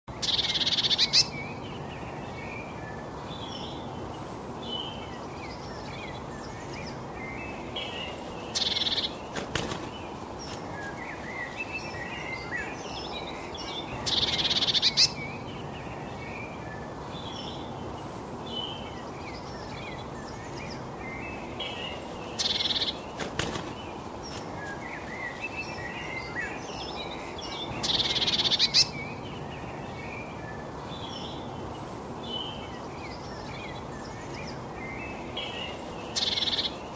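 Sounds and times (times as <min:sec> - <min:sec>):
small songbirds chirping: 0:00.0 - 0:36.9
steady background hiss: 0:00.1 - 0:36.9.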